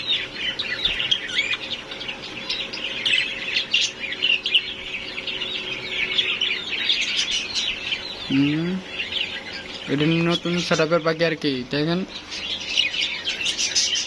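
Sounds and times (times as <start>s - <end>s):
budgerigars chattering: 0.0s - 14.0s
faint steady hum: 0.0s - 14.0s.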